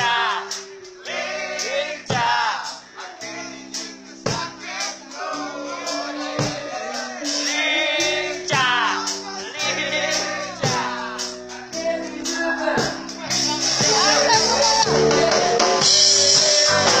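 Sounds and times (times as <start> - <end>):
live reggae band playing: 0.0 - 17.0
person singing: 2.0 - 17.0.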